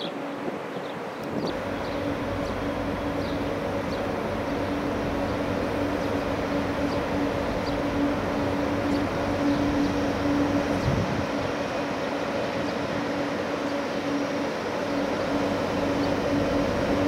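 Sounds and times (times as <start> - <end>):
train humming and rumbling: 0.0 - 17.0.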